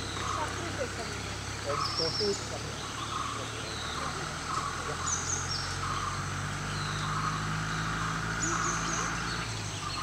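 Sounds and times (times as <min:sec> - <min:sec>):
birds chirping: 0:00.0 - 0:10.0
car engine idling: 0:00.0 - 0:10.0.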